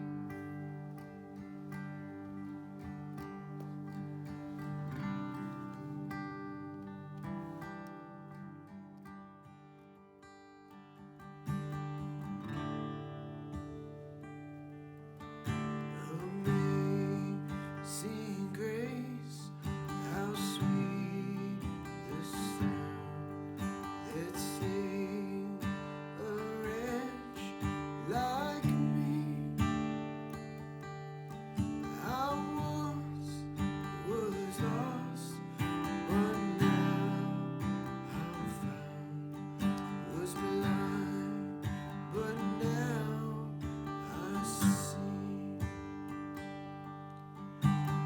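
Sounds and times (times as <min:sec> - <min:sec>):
acoustic guitar strumming chords: 0:00.0 - 0:48.0.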